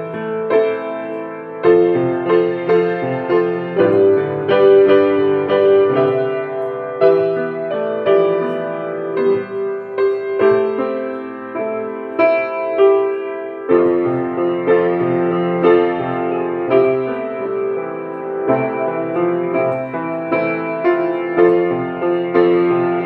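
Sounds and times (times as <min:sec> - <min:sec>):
slow piano playing: 0:00.0 - 0:23.0.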